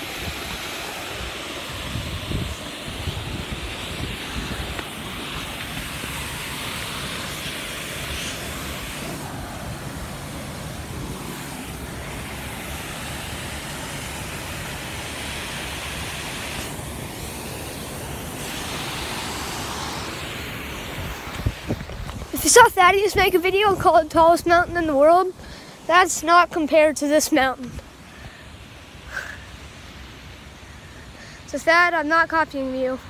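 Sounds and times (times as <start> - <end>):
wind buffeting microphone: 0.0 - 28.3
waterfall rushing: 0.0 - 32.7.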